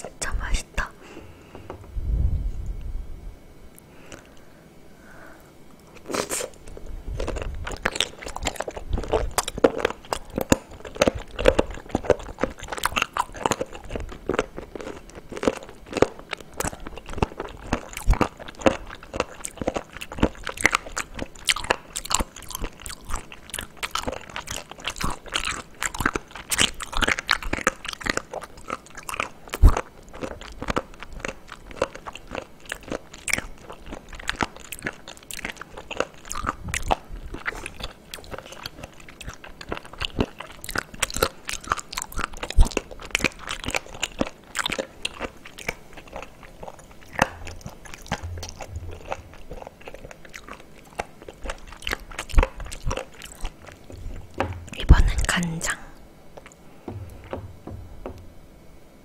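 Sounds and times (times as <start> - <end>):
close chewing with wet clicks: 5.8 - 55.6.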